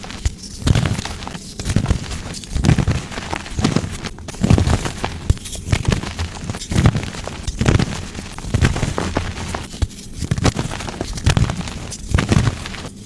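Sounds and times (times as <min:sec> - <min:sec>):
chalk blocks crunching: 0:00.0 - 0:13.0.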